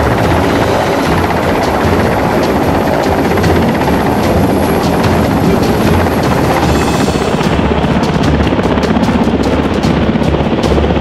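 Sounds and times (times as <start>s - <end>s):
helicopter flying low overhead: 0.0s - 11.0s.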